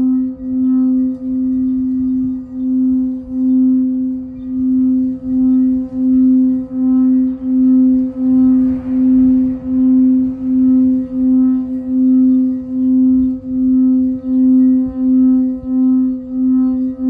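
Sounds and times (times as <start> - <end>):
singing bowl tone: 0.0 - 17.0.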